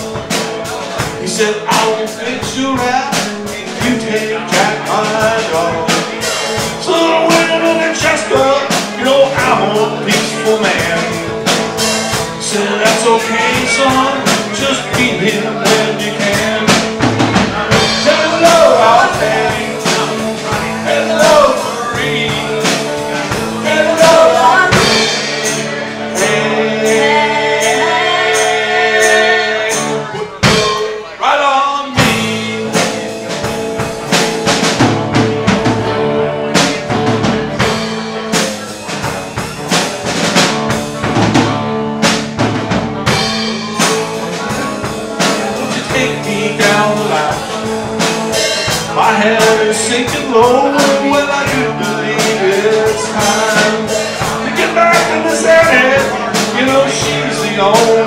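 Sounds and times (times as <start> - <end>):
electric guitars: 0.0 - 31.4, 32.0 - 58.0
drum kit: 0.0 - 58.0.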